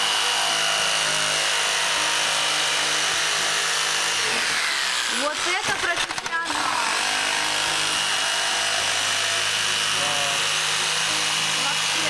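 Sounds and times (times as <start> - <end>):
electric jigsaw cutting foam: 0.0 - 12.0.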